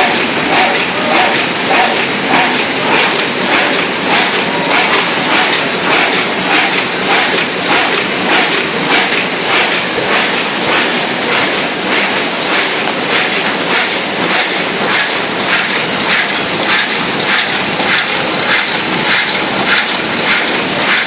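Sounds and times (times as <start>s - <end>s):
die-cutting machine clattering: 0.0s - 21.0s.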